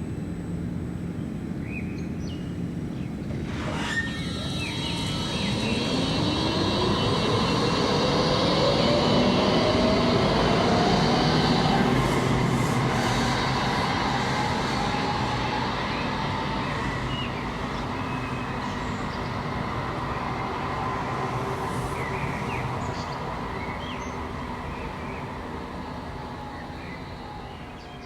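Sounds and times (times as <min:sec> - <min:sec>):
tram rumbling: 0:03.1 - 0:28.0.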